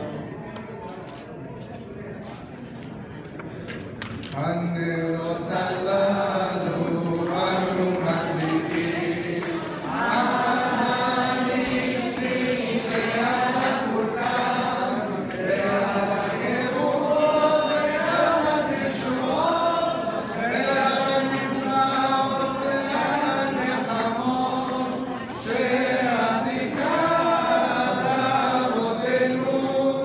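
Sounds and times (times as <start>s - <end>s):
group of voices singing: 4.8s - 30.0s.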